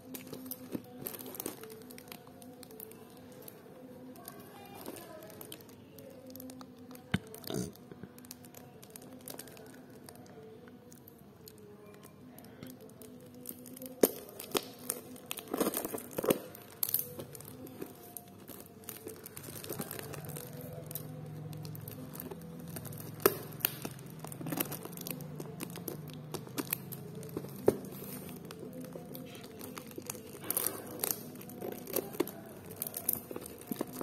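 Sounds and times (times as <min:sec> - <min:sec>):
plastic crinkling and tearing: 0:00.0 - 0:34.0.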